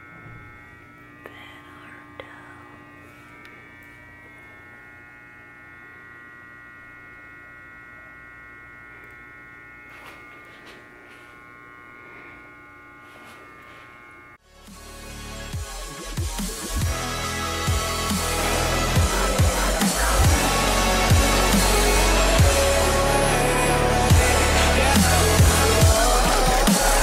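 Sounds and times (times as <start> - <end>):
electrical hum with high whine: 0.0 - 14.4, 15.4 - 27.0.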